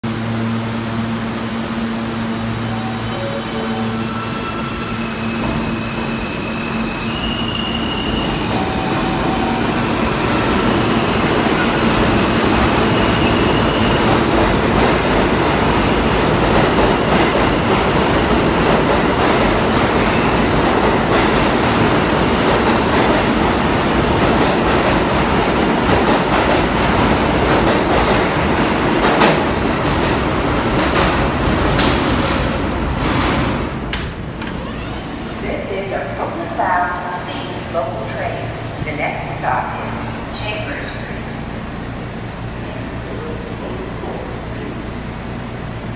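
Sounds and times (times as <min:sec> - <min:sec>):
train wheels rumbling on rail: 0:00.1 - 0:45.9.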